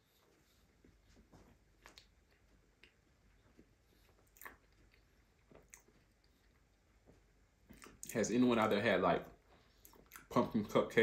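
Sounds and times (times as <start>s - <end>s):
person chewing softly: 0.0s - 8.2s, 9.2s - 10.7s.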